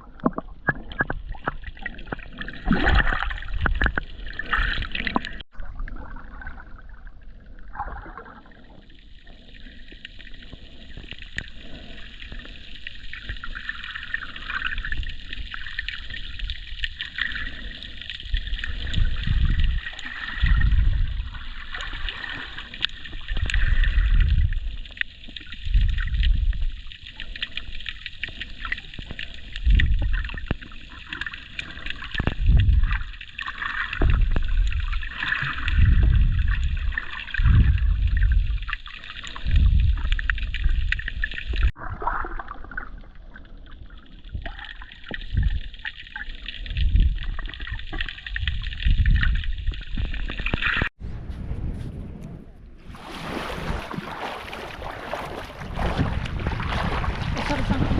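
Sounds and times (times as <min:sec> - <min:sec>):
sea water sloshing at shore: 0:00.0 - 0:50.9, 0:52.8 - 0:57.9.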